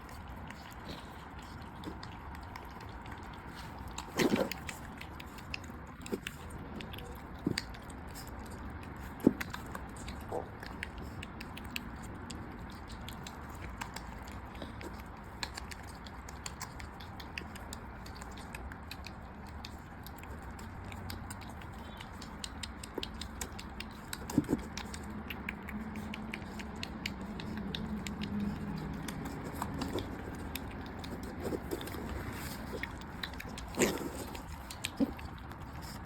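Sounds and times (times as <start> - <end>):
animals chewing food: 0.0 - 36.0.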